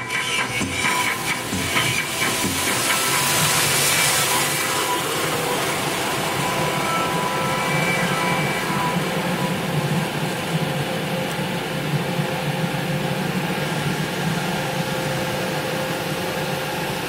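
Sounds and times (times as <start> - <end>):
constant hiss: 0.0 - 17.0.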